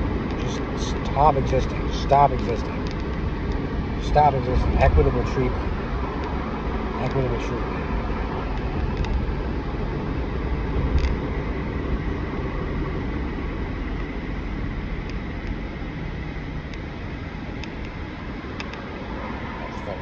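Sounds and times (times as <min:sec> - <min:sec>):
low rumbling noise: 0:00.0 - 0:20.0.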